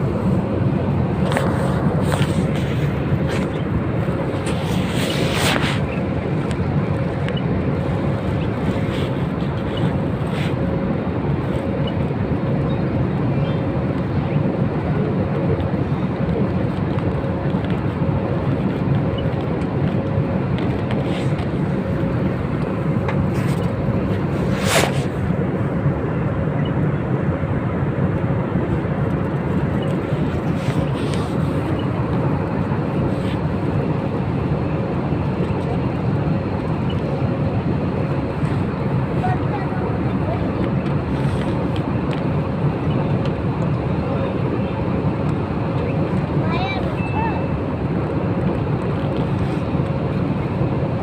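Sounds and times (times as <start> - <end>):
train coach running noise: 0.0 - 51.0.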